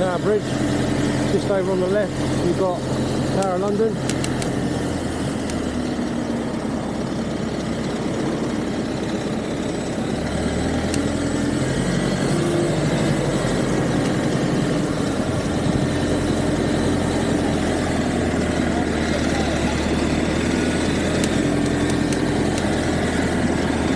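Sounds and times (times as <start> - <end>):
traffic rushing: 0.0 - 23.9
vehicle engines humming: 0.0 - 23.9.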